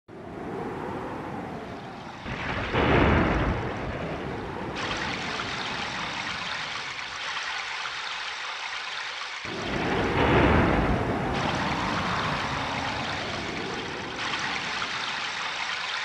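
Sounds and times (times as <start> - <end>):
thunder rumble: 0.1 - 7.3, 9.5 - 15.9
heavy rain hiss: 1.8 - 8.1, 9.3 - 16.0.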